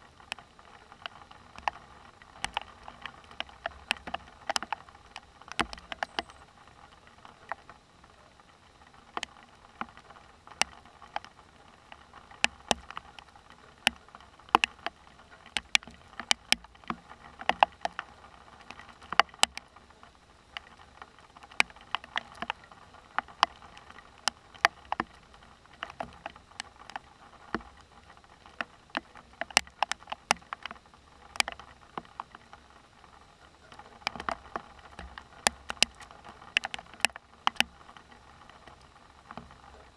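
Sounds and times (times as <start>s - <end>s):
raindrops tapping hard surface: 0.0s - 39.9s.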